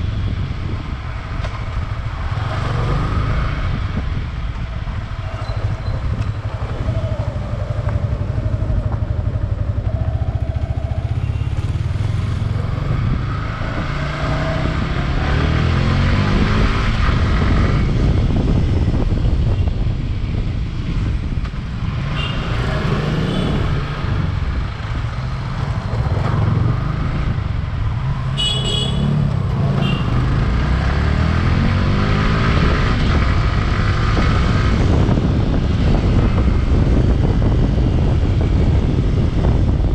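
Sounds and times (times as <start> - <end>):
road and wind noise: 0.0 - 39.9
motorcycle engine accelerating: 4.9 - 19.4, 22.2 - 39.9.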